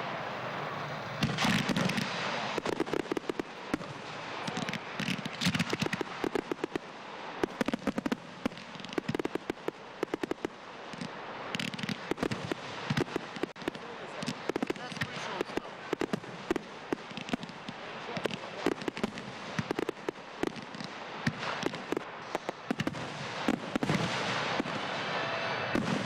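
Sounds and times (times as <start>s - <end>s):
fireworks popping: 0.0s - 26.0s
loud firework bangs: 0.0s - 26.0s.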